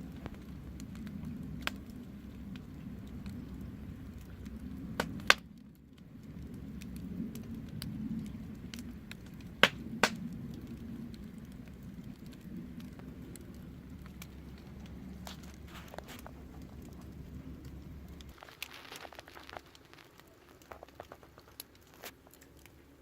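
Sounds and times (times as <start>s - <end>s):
fire pops: 0.0s - 23.0s
wood fire crackling: 0.0s - 23.0s.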